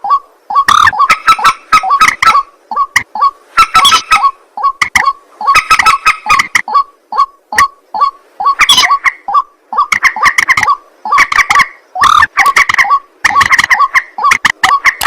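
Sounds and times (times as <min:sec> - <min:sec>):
rail bird croaking calls: 0:00.0 - 0:15.0.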